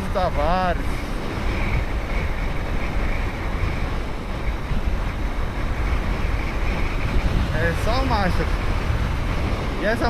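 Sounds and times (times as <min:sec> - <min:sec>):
motorcycle engine: 0:00.0 - 0:10.0
road noise: 0:00.0 - 0:10.0
wind rushing over microphone: 0:00.0 - 0:10.0.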